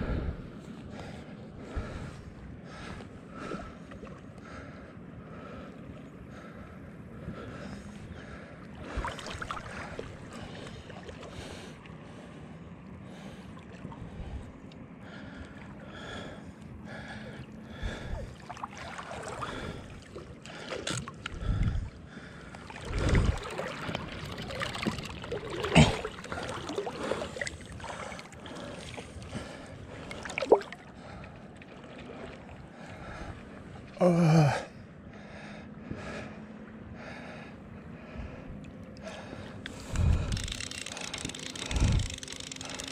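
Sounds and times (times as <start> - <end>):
river water lapping and splashing: 0.0 - 42.9.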